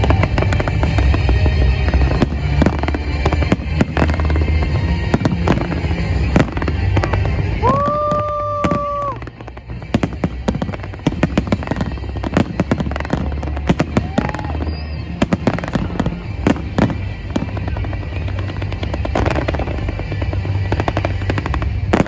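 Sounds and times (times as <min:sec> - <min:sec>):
deep rumble: 0:00.0 - 0:22.0
fireworks bangs and crackling: 0:00.0 - 0:22.0.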